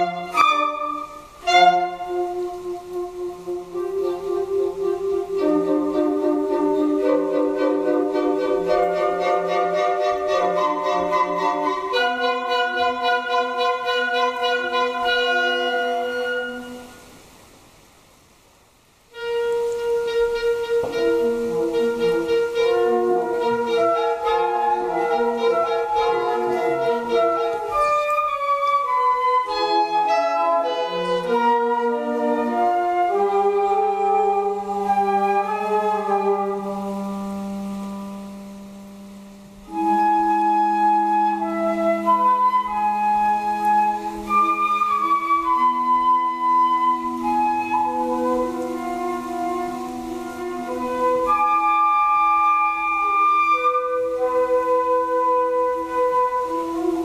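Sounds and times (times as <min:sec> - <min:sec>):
flutes and clarinet chamber music: 0:00.0 - 0:17.4, 0:19.0 - 0:57.0.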